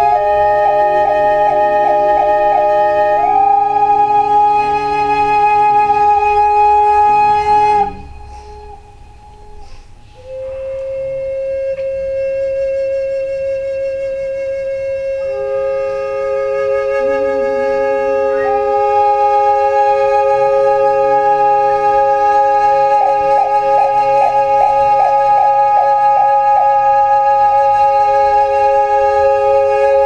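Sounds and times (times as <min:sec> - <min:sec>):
wooden flute held notes: 0:00.0 - 0:30.0.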